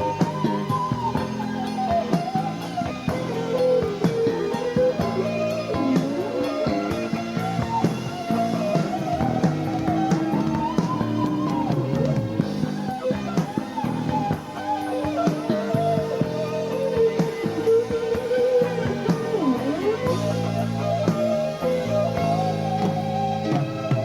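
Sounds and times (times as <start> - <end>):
wavering bending melody: 0.0 - 23.4
live pop band: 0.0 - 24.0.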